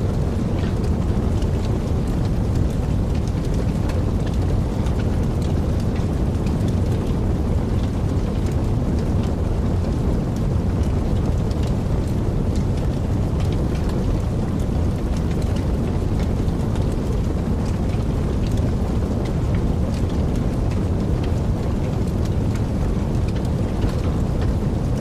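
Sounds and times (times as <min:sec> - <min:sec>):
wood fire burning and crackling: 0:00.0 - 0:25.0.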